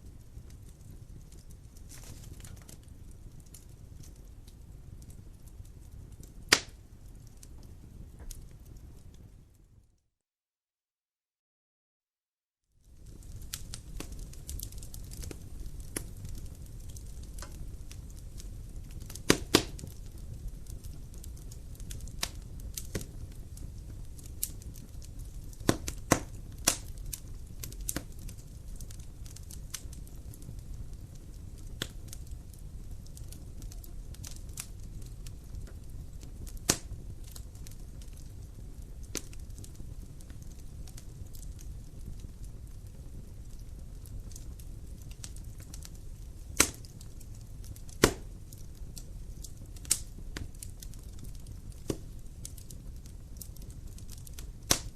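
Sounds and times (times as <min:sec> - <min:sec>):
low rumble of fire flames: 0:00.0 - 0:10.0, 0:12.6 - 0:54.9
wood fire crackling and popping: 0:00.0 - 0:10.0, 0:12.8 - 0:54.9.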